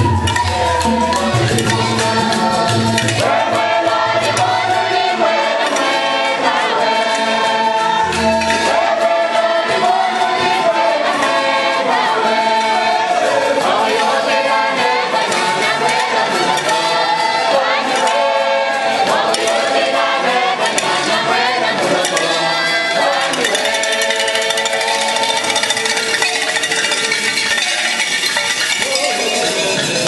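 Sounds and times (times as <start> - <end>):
congregation and choir singing hymn: 0.0 - 30.0.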